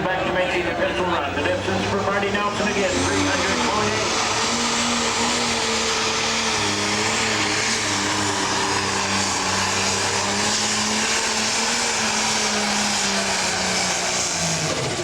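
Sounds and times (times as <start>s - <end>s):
dense rushing noise: 0.0s - 15.0s
diesel engine running loud: 0.0s - 15.0s.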